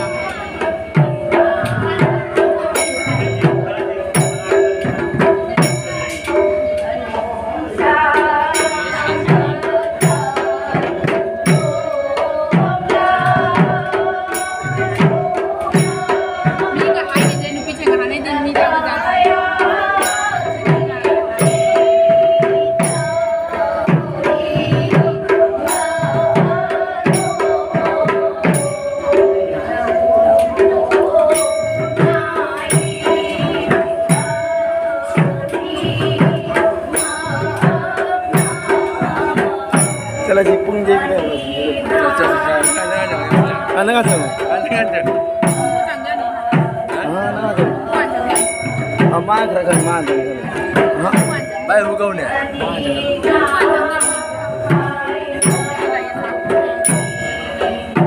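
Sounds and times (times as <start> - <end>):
drum beaten steadily: 0.0 - 58.0
steady held tones: 0.0 - 58.0.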